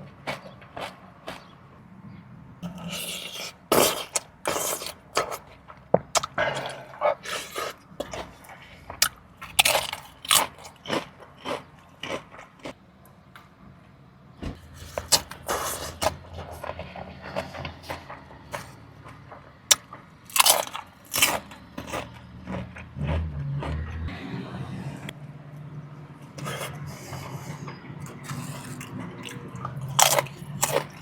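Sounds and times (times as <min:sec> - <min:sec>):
crunchy food chewing: 0:00.0 - 0:01.6, 0:02.6 - 0:12.8, 0:14.6 - 0:18.8, 0:19.7 - 0:24.1, 0:26.4 - 0:31.0.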